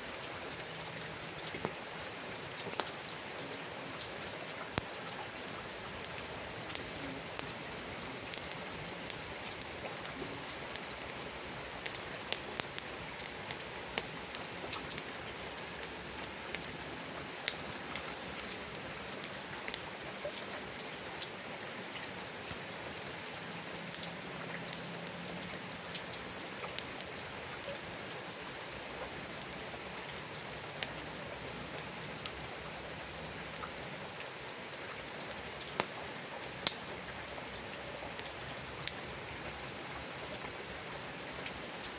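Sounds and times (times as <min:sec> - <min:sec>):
steady rain hiss: 0:00.0 - 0:41.9
campfire popping and crackling: 0:01.1 - 0:03.2, 0:03.9 - 0:21.3, 0:23.9 - 0:39.3.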